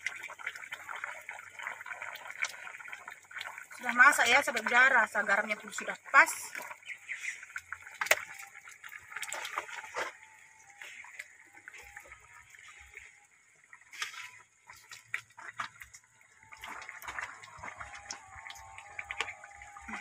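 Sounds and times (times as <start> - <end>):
liquid pouring and splashing: 0.0 - 20.0.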